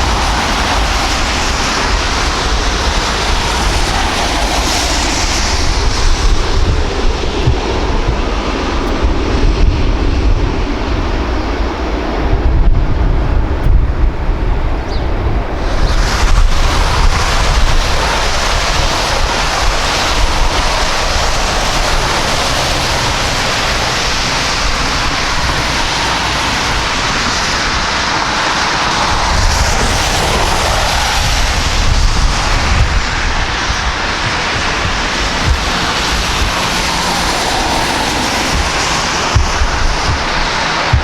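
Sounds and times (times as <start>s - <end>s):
jet engines passing: 0.0s - 41.0s
wind rumble on microphone: 0.0s - 41.0s.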